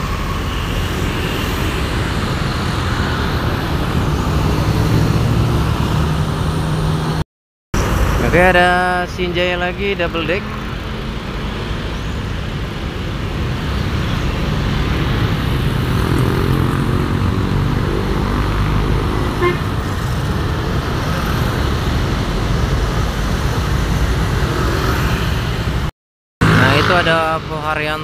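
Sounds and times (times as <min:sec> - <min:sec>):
road traffic: 0:00.0 - 0:07.2, 0:07.8 - 0:28.0.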